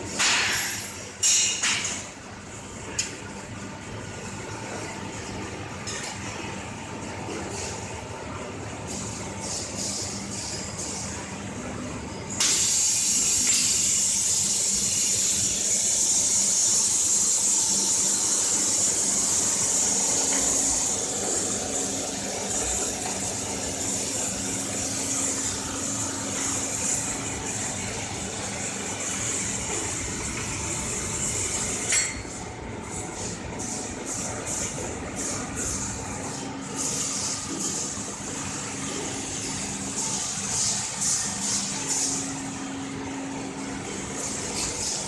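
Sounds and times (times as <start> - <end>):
factory machine hum: 0.0 - 45.0.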